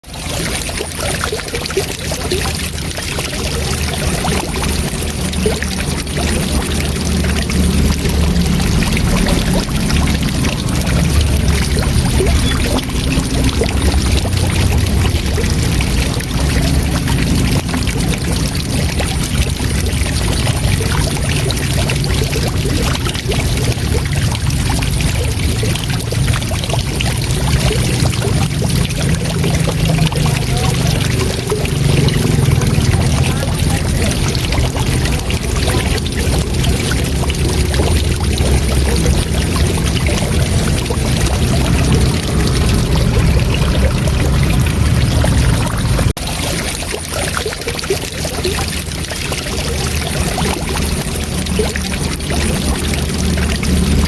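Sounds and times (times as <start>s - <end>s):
waterfall roaring: 0.1s - 54.0s.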